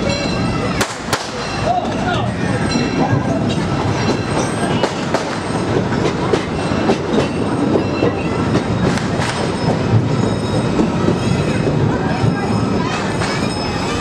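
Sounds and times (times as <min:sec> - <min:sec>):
rumble of train cars: 0:00.0 - 0:14.0
wheels clicking over rail joints: 0:00.0 - 0:14.0
wheel squeal: 0:01.4 - 0:14.0.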